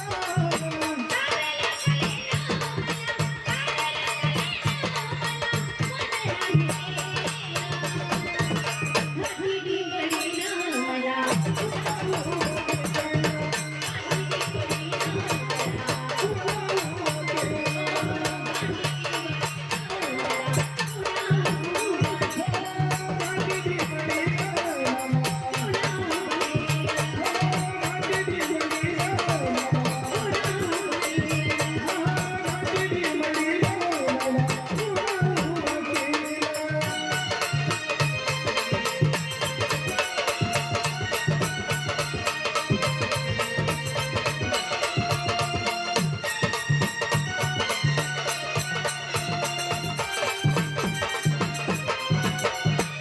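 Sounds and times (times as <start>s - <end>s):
fast drum beat: 0.0s - 9.4s, 11.3s - 53.0s
devotional folk music: 0.0s - 53.0s
rattling percussion: 0.0s - 53.0s.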